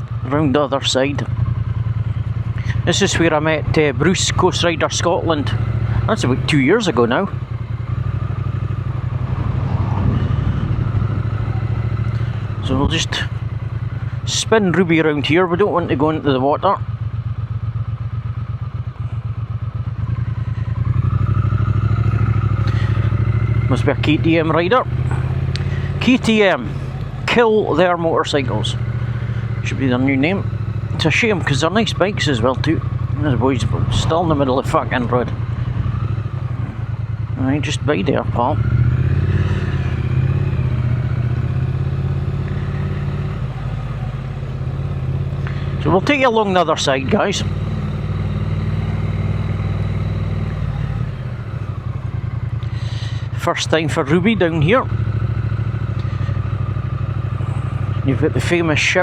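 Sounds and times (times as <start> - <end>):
motorcycle engine low revs: 0.0 - 59.0.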